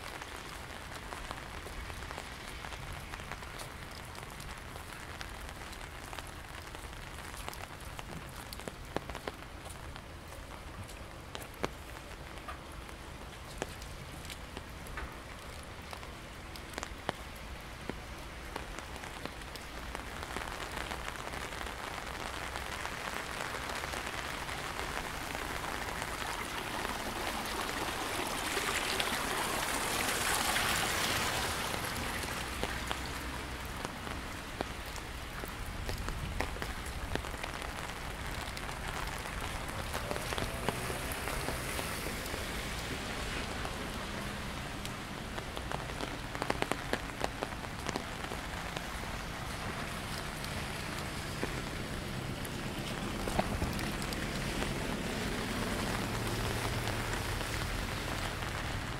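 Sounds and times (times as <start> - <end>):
stream water running: 0.0 - 58.9.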